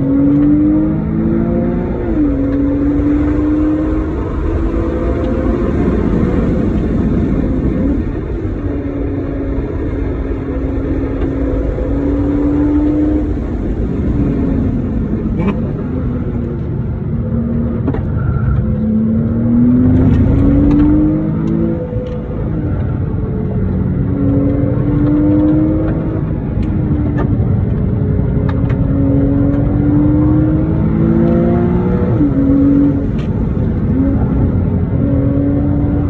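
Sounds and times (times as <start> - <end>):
car engine revving: 0.0 - 36.0
road and tyre noise: 0.0 - 36.0.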